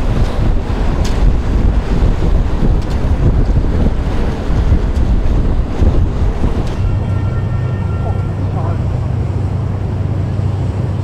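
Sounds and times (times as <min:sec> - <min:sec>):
steady low hum: 0:00.0 - 0:11.0
water washing against hull: 0:00.0 - 0:11.0
wind buffeting microphone: 0:00.0 - 0:11.0.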